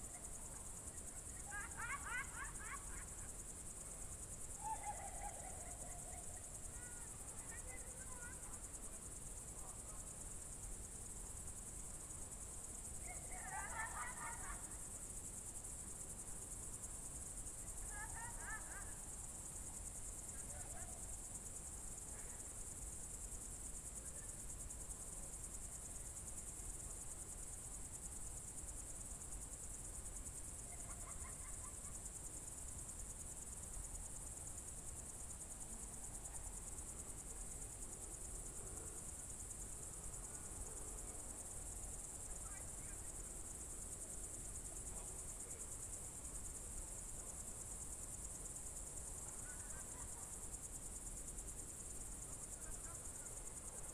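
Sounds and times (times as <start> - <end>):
crickets trilling: 0.0 - 53.9.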